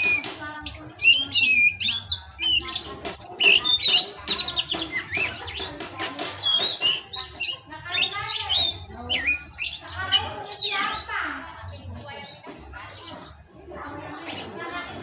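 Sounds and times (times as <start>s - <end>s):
magpie-robin singing: 0.0s - 15.0s.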